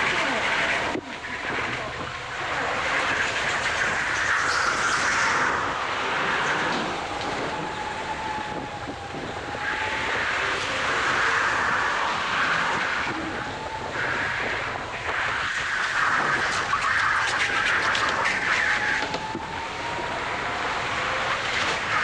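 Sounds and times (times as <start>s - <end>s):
go-kart engine drone: 0.0s - 22.0s.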